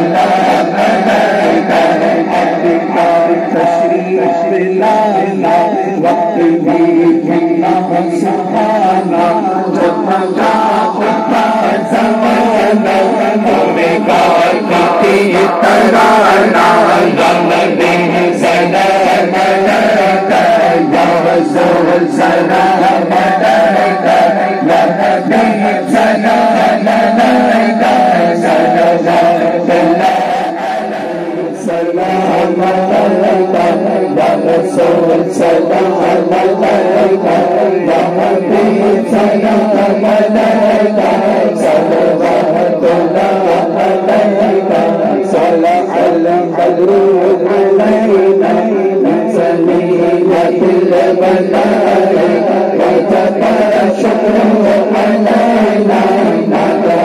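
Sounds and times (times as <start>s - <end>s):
sharp rhythmic strikes: 0.0s - 57.0s
voices chanting in unison: 0.0s - 57.0s.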